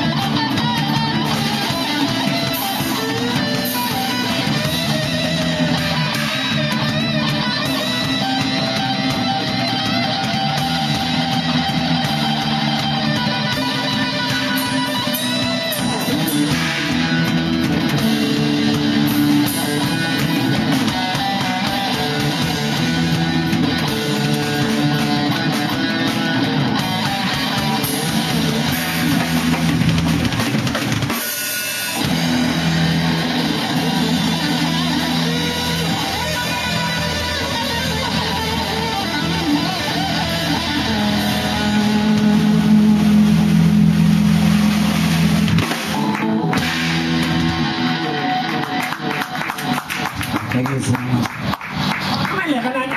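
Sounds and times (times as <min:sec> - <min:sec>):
rock music with guitar and drums: 0:00.0 - 0:52.9.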